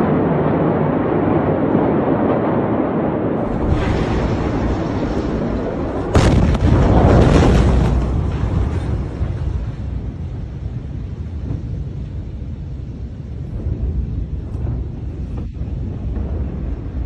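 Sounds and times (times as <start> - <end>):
microphone buffeting rumble: 3.4 - 17.0.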